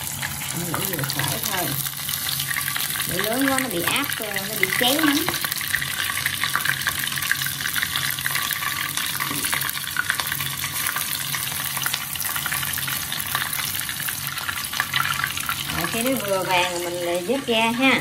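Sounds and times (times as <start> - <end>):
hot oil sizzling and crackling: 0.0 - 18.0.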